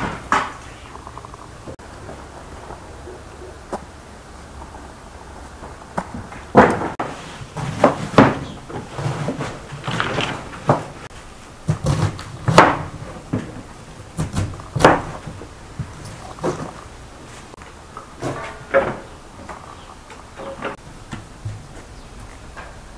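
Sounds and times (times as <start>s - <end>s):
wooden knocks and clatter: 0.0s - 22.9s.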